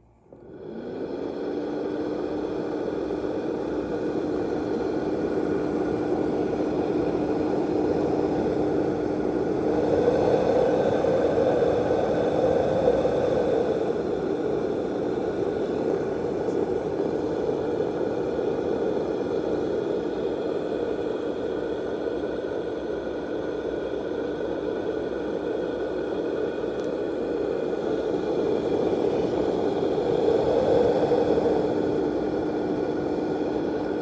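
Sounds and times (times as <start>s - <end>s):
faint constant hum: 0.0s - 34.0s
white noise machine whooshing: 0.4s - 34.0s.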